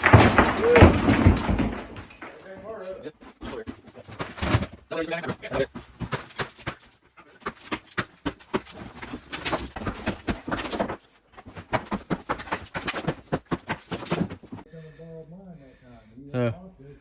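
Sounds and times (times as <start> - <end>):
sharp knocks and clatters: 0.0 - 14.7.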